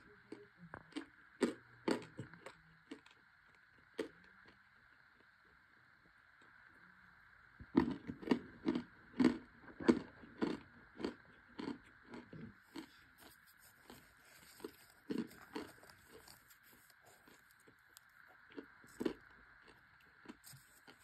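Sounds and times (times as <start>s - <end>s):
person chewing crunchy food: 0.3s - 4.6s, 7.7s - 21.0s.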